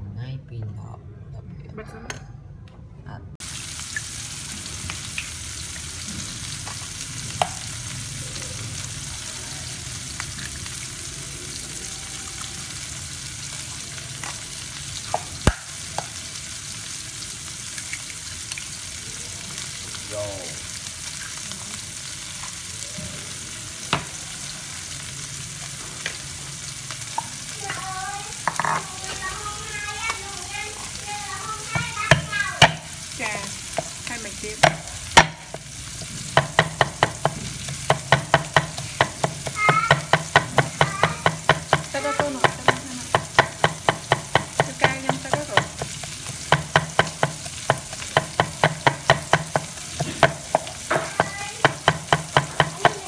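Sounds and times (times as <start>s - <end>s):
oil sizzling in a frying pan: 3.4s - 53.0s.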